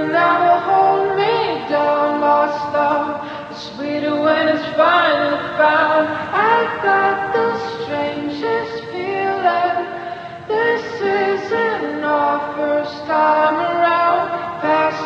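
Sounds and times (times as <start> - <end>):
layered sung voices: 0.0 - 15.0.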